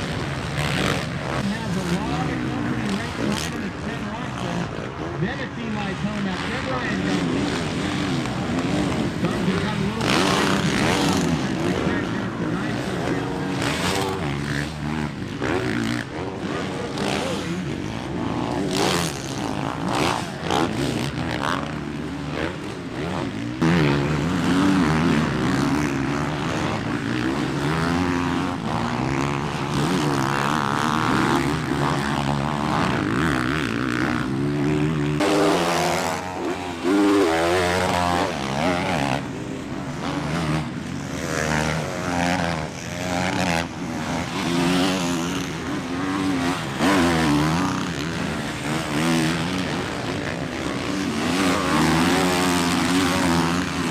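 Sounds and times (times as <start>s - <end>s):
motocross bike engines racing: 0.0s - 53.9s.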